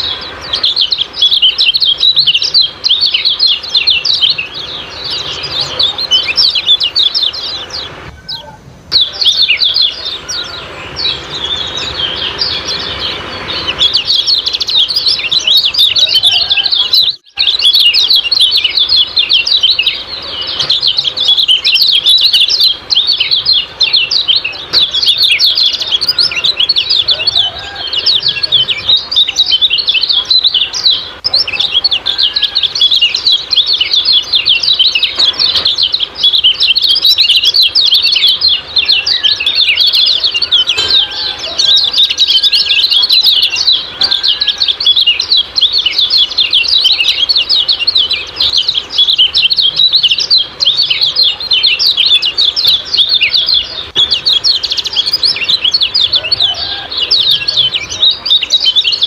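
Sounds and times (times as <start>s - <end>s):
bird chattering chirps: 0.0s - 59.0s
low whistled bird notes: 0.0s - 59.0s.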